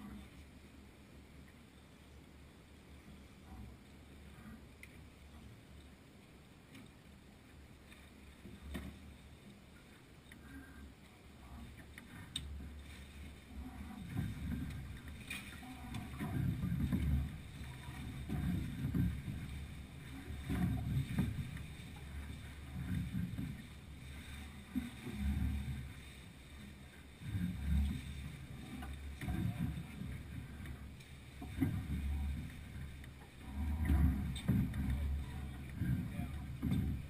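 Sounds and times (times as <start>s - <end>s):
water lapping along hull: 0.0s - 37.0s
faint clicks: 3.1s - 37.0s.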